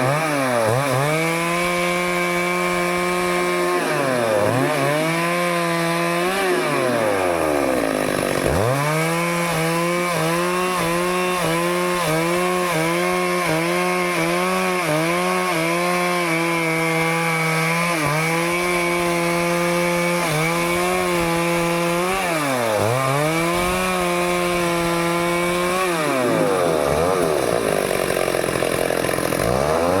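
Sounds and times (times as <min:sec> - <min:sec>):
chainsaw cutting wood: 0:00.0 - 0:30.0.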